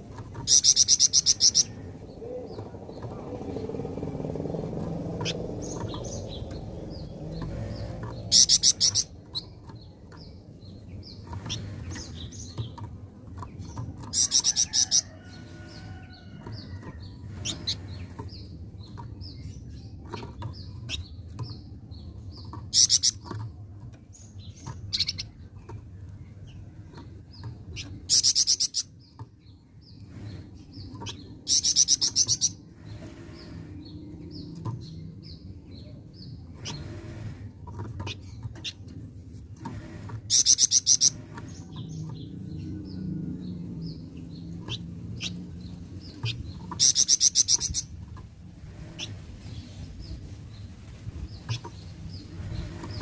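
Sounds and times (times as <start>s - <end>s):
songbird chirping and trilling: 0.0s - 53.0s.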